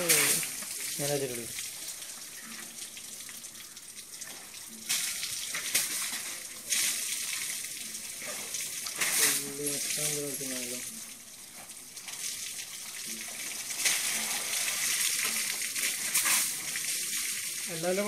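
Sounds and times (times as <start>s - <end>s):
hose water splashing: 0.0s - 18.0s.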